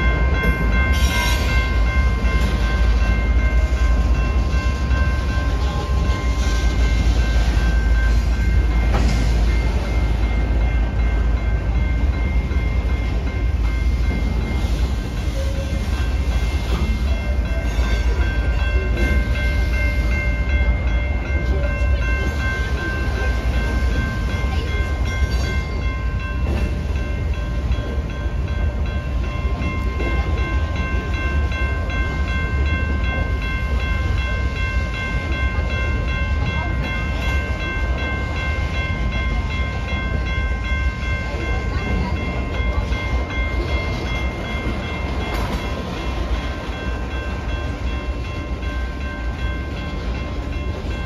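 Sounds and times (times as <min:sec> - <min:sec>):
train rumbling past: 0:00.0 - 0:51.0.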